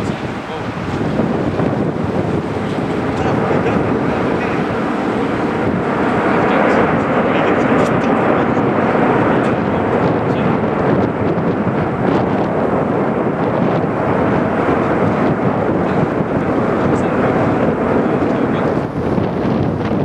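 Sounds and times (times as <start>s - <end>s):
jet engines roaring: 0.0s - 20.0s
wind on microphone: 0.0s - 20.0s.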